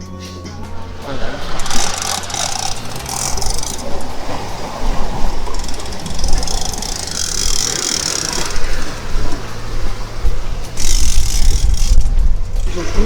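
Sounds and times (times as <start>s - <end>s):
sea water rushing and hissing: 0.4s - 13.0s
wind buffeting microphone: 0.7s - 13.0s.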